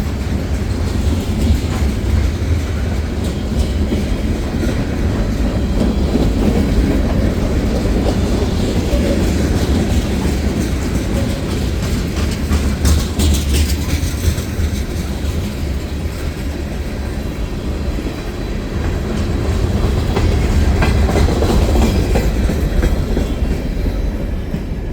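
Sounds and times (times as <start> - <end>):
heavy rumble of freight train: 0.0 - 24.9
train wheels clicking over rail joints: 0.0 - 24.9.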